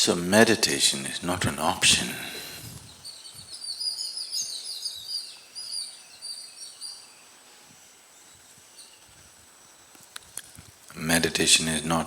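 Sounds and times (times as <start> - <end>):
birds twittering: 0.1 - 12.0.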